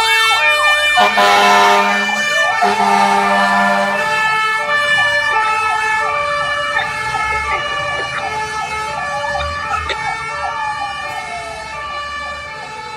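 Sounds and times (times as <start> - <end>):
fire engine siren yelping: 0.0 - 12.9.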